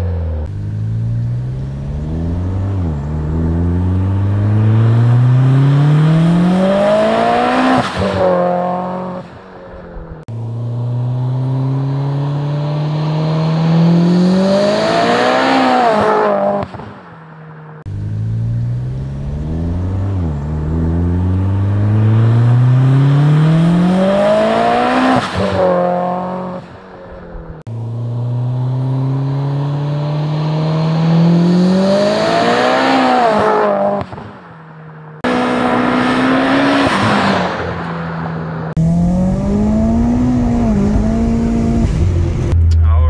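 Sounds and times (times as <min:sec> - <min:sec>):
car engine accelerating hard: 0:00.0 - 0:09.3, 0:10.2 - 0:16.8, 0:17.8 - 0:34.3, 0:35.2 - 0:43.0.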